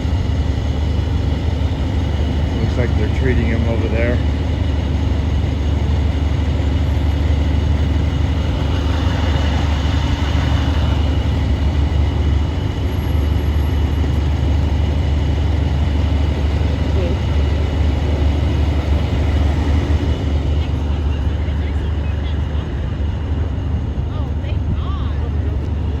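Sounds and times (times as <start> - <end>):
low rumble of road traffic: 0.0 - 26.0
vehicles passing: 0.0 - 26.0.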